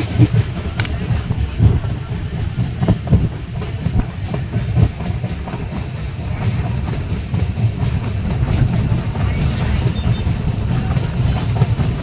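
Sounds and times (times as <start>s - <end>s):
train knocks: 0.0s - 12.0s
train wheels rumbling on rails: 0.0s - 12.0s.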